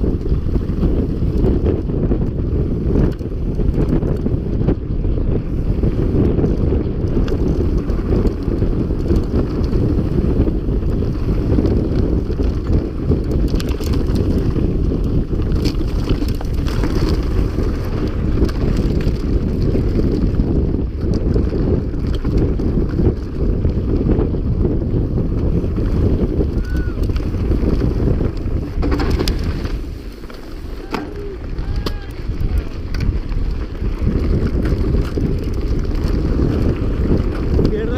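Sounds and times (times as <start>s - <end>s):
bike clicks and rattles: 0.0s - 37.9s
wind rumbling on microphone: 0.0s - 37.9s.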